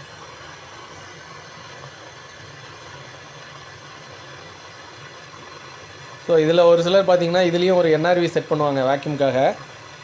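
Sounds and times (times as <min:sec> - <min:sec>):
welding torch flame hissing: 0:00.0 - 0:10.0.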